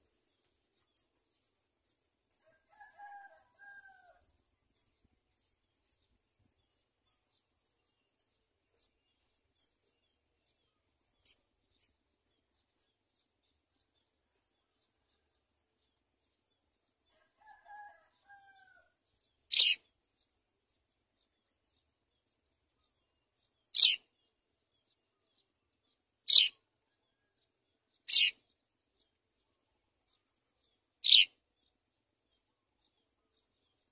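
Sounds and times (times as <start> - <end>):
house sparrows chirping: 0.0 - 33.9.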